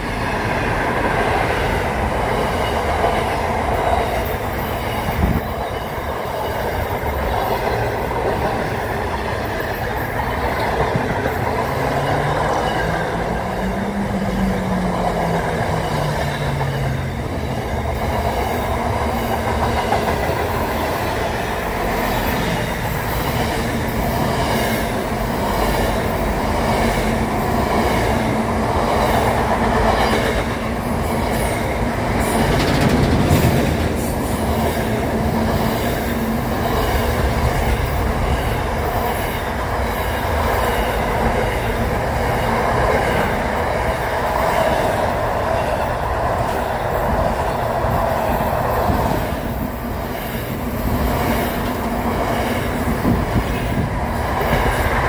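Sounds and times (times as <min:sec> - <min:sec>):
freight train wagons rumbling: 0:00.0 - 0:55.0.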